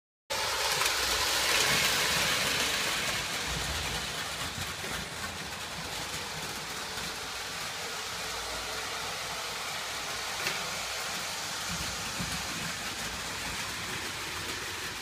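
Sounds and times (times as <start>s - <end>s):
toy train running on rails: 0.3s - 15.0s.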